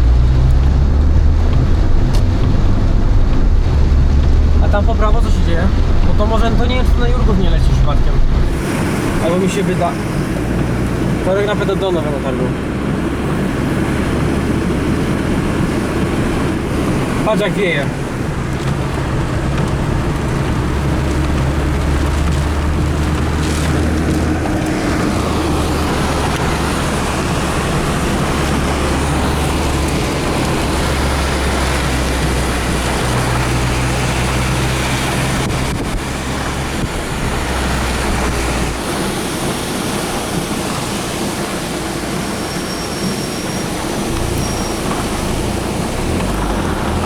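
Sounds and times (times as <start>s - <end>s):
car engine and road drone: 0.0s - 47.0s
rushing wind and road noise: 0.0s - 47.0s.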